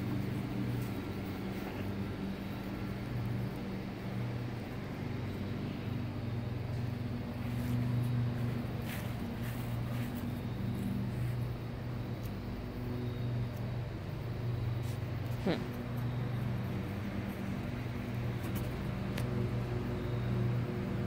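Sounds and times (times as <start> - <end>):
low mechanical motor hum: 0.0 - 21.0.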